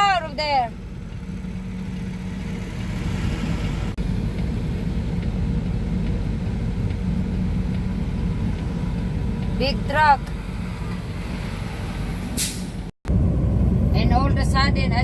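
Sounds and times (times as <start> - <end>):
diesel truck engine drone: 0.0 - 15.0
road rumble: 0.0 - 15.0.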